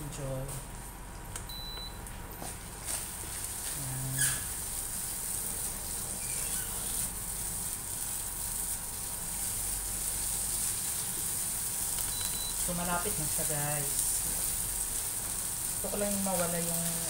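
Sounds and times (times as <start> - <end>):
meat sizzling in a pan: 2.8 - 17.0.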